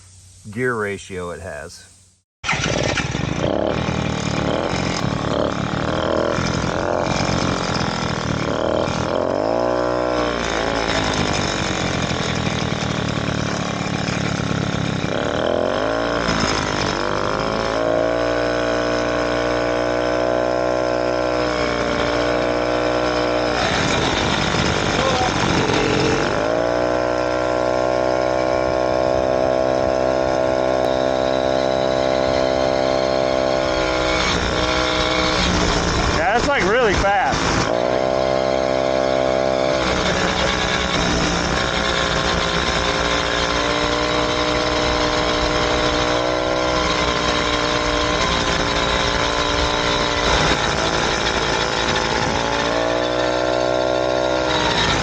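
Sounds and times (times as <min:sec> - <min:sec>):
two-stroke engine revving high: 0:02.4 - 0:55.0.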